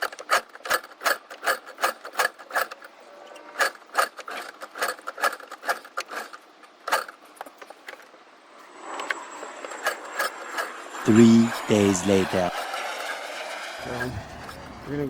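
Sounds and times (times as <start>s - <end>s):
rhythmic squeaky mechanical clicking: 0.0s - 15.0s.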